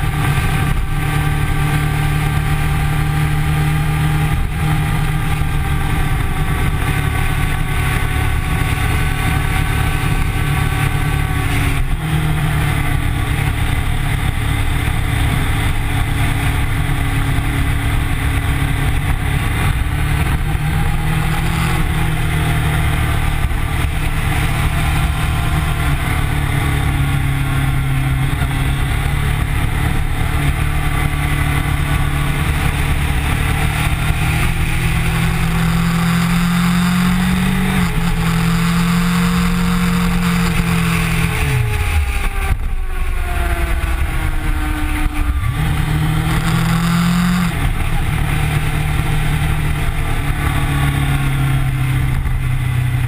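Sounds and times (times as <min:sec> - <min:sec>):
motorcycle engine revving and shifting: 0:00.0 - 0:53.0
wind and road rush: 0:00.0 - 0:53.0.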